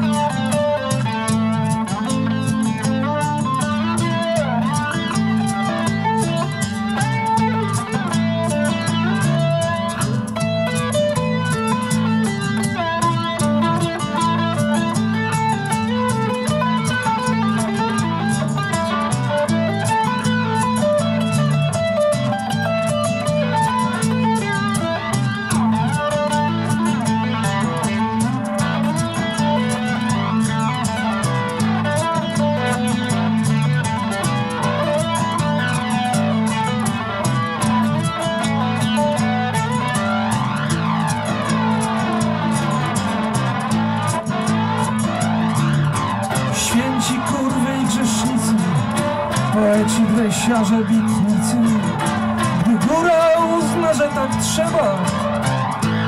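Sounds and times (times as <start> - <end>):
nylon-string guitar playing: 0.0 - 56.0.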